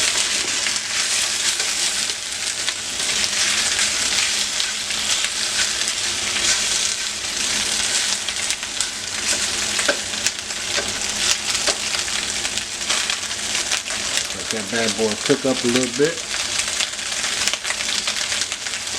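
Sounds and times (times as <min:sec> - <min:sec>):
food frying in hot oil: 0:00.0 - 0:18.9.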